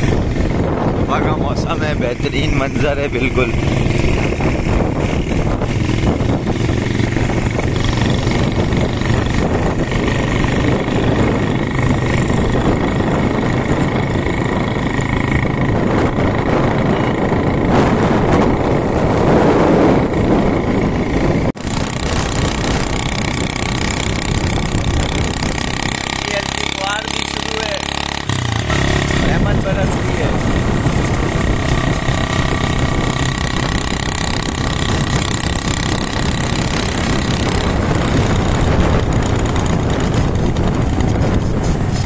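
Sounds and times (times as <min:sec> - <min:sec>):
motorcycle engine running: 0:00.0 - 0:42.0
wind noise on microphone: 0:00.0 - 0:42.0.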